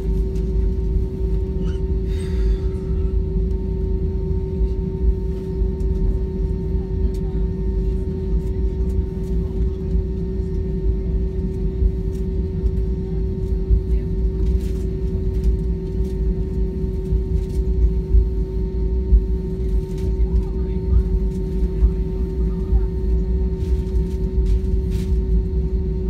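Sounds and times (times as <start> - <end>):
aircraft cabin low rumble: 0.0 - 26.0
constant hum: 0.0 - 26.0.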